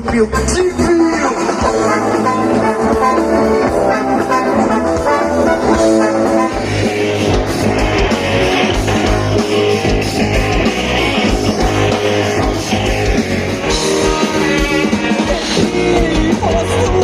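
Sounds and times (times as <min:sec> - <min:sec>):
electric guitar: 0:00.0 - 0:17.0
steady drum beat: 0:00.0 - 0:17.0.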